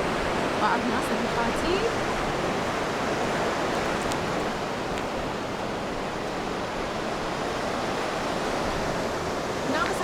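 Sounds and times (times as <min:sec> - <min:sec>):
sea waves washing on shore: 0:00.0 - 0:10.0.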